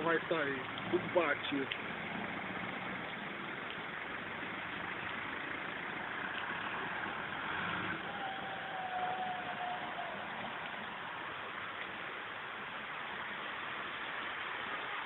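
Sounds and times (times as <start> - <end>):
car engines running: 0.0 - 15.0
rain hiss and wet road noise: 0.0 - 15.0.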